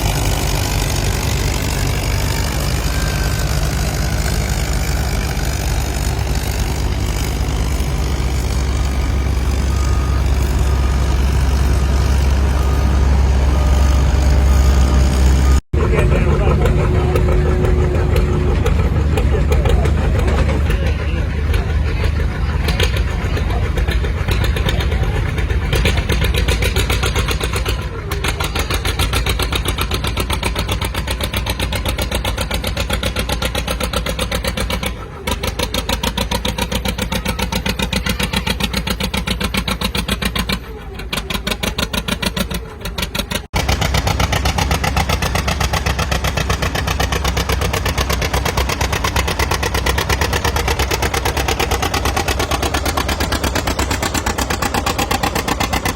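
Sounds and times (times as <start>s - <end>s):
tractor engine running hard: 0.0s - 55.9s.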